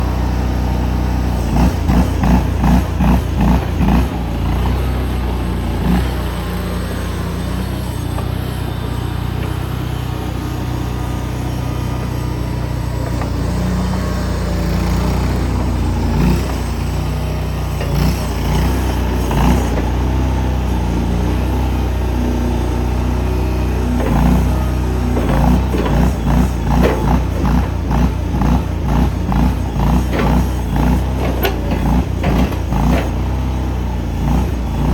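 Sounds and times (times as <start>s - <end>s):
small engine running steadily: 0.0s - 34.9s.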